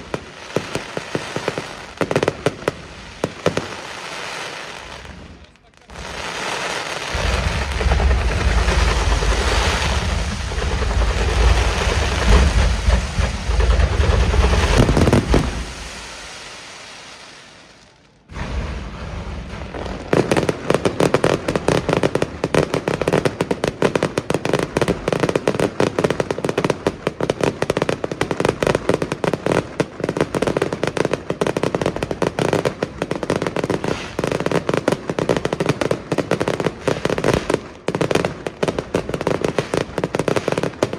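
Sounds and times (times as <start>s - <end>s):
deep rumble of firework bangs: 0.0s - 4.1s, 4.8s - 16.8s, 18.2s - 40.9s
rapid crackle of firework bangs: 0.0s - 40.9s.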